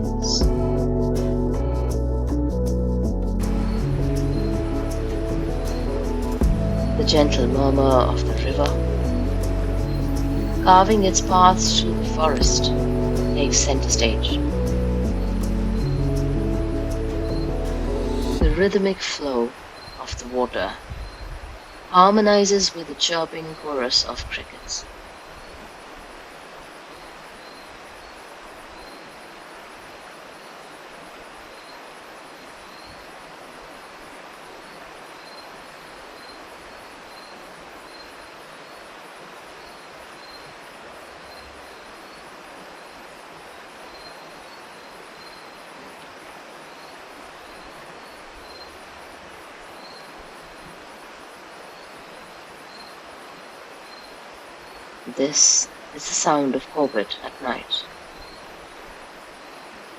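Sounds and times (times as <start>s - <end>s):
crickets chirping: 0.0s - 59.9s
river water rushing: 3.4s - 20.9s, 21.5s - 59.9s.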